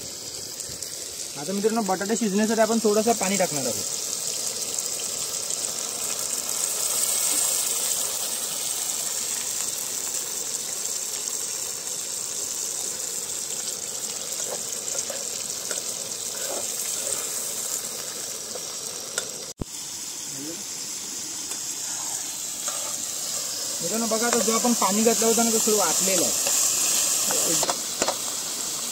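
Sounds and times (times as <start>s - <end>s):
food sizzling in a pan: 0.0s - 28.9s
water poured into hot pan: 0.0s - 28.9s.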